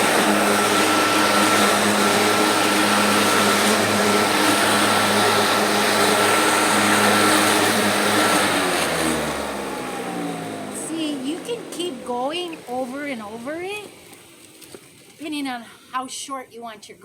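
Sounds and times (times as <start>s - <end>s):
lawnmower motor whine: 0.0s - 15.1s.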